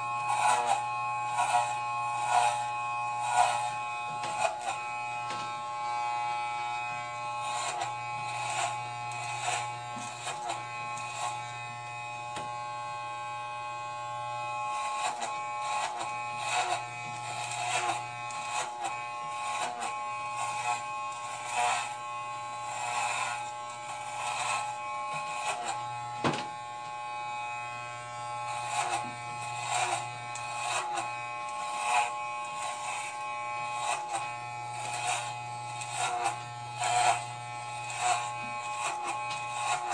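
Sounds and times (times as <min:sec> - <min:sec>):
blades crunching through hair: 0:00.0 - 0:39.9
electric hair clippers buzzing: 0:00.0 - 0:39.9.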